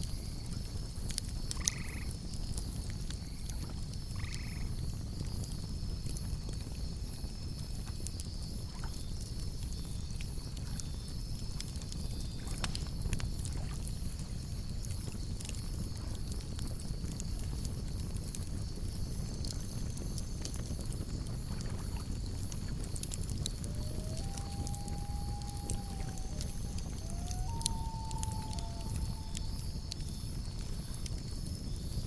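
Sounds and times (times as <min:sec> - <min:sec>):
campfire burning: 0:00.0 - 0:32.0
crackles and pops of burning wood: 0:00.0 - 0:32.0
pulsing insect chirp: 0:00.0 - 0:32.0.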